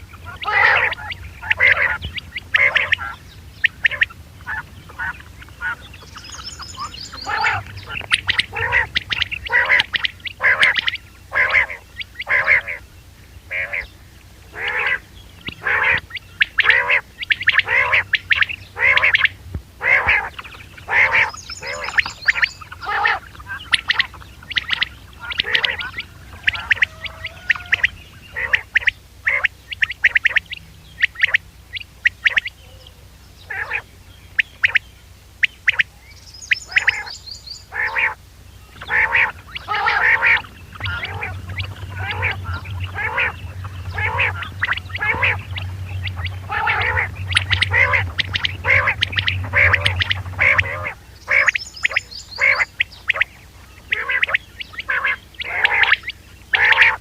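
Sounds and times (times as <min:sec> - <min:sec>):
low hum: 0:00.0 - 0:57.0
recorded quail calls: 0:00.0 - 0:57.0.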